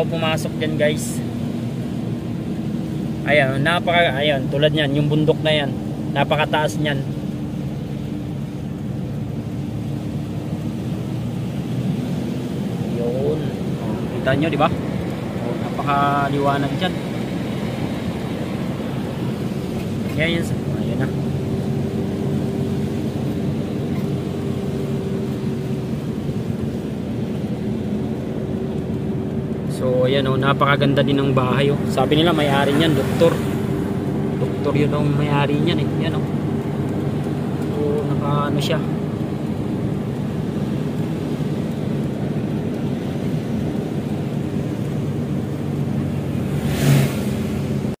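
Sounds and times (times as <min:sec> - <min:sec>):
car engine and road drone: 0:00.0 - 0:48.0.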